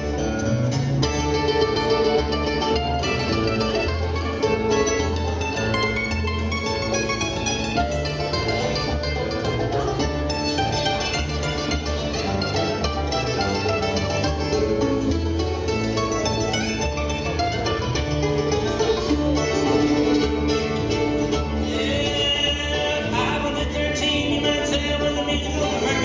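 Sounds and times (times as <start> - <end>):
bluegrass band playing: 0.0 - 26.0.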